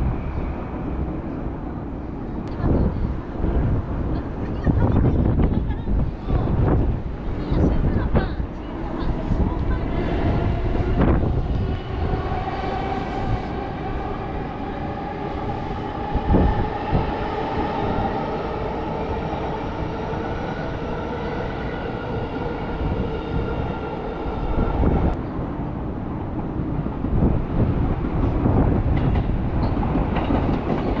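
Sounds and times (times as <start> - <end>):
low train rumble: 0.0 - 31.0.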